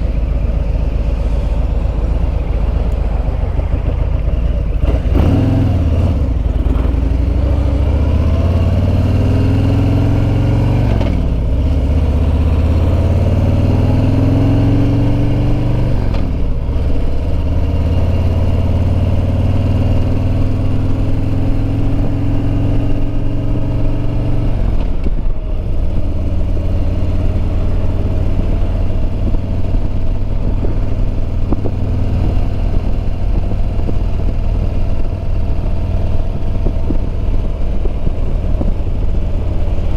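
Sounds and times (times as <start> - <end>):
motorcycle engine shifting gears: 0.0 - 39.9
wind noise: 0.0 - 39.9.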